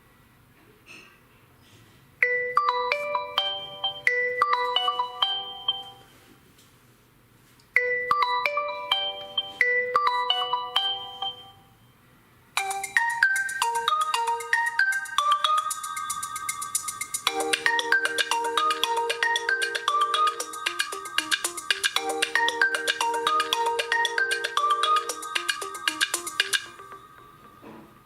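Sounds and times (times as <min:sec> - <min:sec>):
brighter ringtone melody: 0:02.2 - 0:06.1, 0:07.8 - 0:11.9, 0:12.6 - 0:28.0
ringtone melody: 0:02.2 - 0:06.1, 0:07.8 - 0:11.8, 0:12.6 - 0:28.0.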